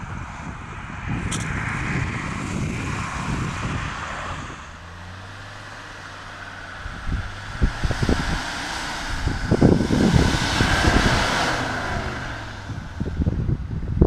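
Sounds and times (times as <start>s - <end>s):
car engine running: 1.2s - 14.0s.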